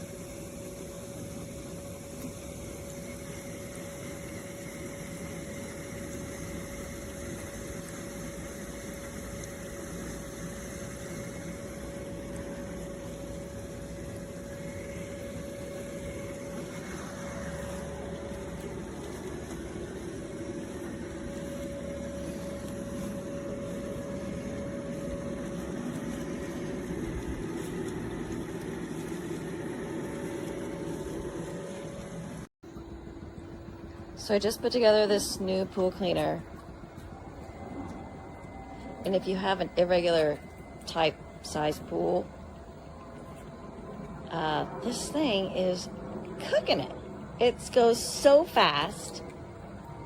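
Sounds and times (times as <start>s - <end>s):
pool pump hum: 0.0s - 50.0s.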